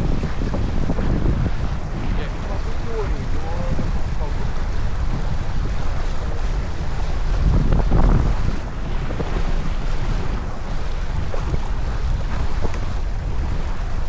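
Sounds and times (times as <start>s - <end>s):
water rushing along boat hull: 0.0s - 14.0s
wind buffeting microphone: 0.0s - 14.0s.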